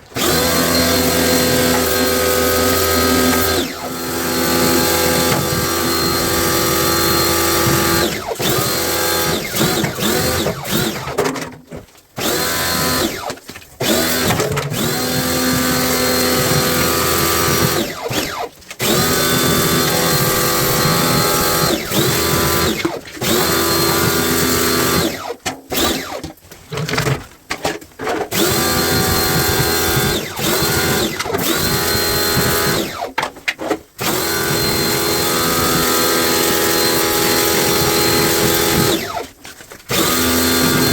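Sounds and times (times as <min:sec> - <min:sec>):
power drill whirring: 0:00.0 - 0:11.3, 0:12.2 - 0:27.0, 0:28.3 - 0:33.2, 0:34.0 - 0:40.9.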